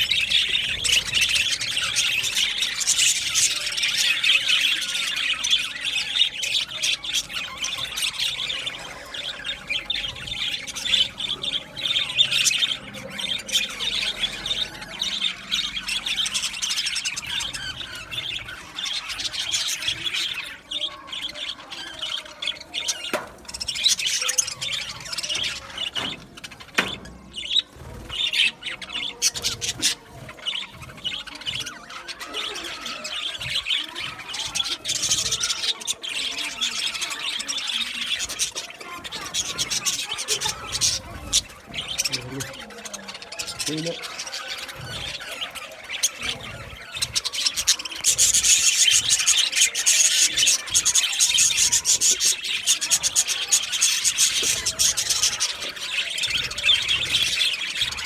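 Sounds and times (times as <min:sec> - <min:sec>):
budgerigars chattering and squawking: 0:00.0 - 0:58.0.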